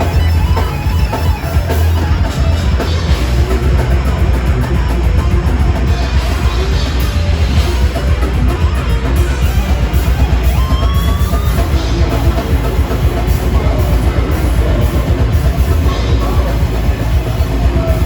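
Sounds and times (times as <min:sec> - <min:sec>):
drum kit: 0:00.0 - 0:18.0
electric guitars: 0:00.0 - 0:18.0
metal band playing live: 0:00.0 - 0:18.0.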